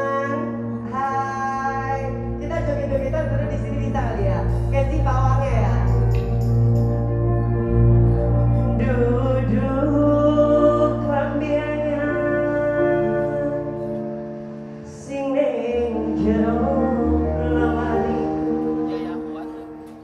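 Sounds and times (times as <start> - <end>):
woman singing into microphone: 0.0 - 7.2, 8.5 - 20.0
low bass line: 0.0 - 15.0, 15.6 - 19.8
keyboard: 0.0 - 20.0.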